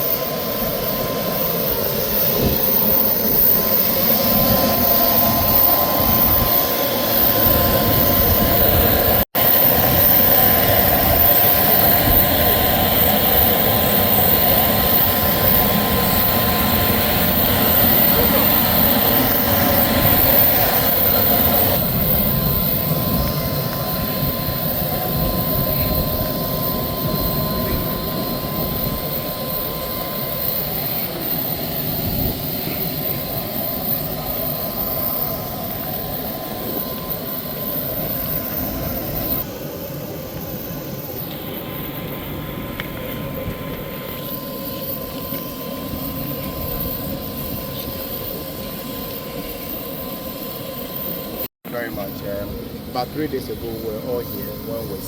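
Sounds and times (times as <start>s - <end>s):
mechanical drone with whine: 0.0s - 55.0s.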